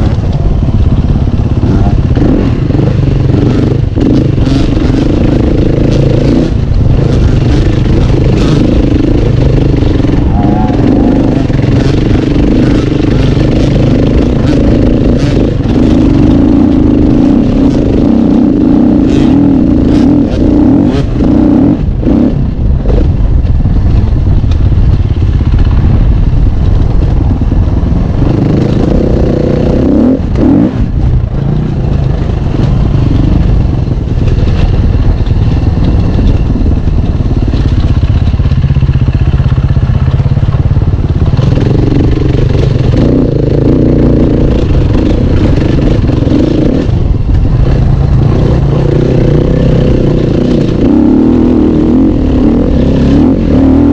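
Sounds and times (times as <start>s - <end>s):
motorcycle clattering over bumps: 0.0s - 53.9s
motorcycle engine revving: 0.0s - 53.9s.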